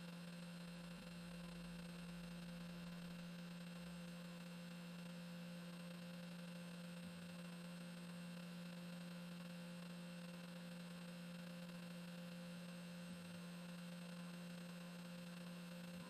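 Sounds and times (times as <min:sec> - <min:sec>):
spindle hum with high whine: 0:00.0 - 0:16.0.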